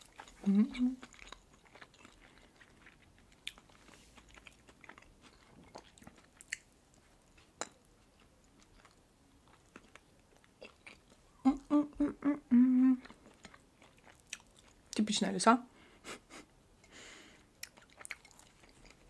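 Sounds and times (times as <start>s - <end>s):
soft chewing with wet clicks: 0.0s - 11.7s, 13.0s - 15.1s, 17.5s - 19.0s.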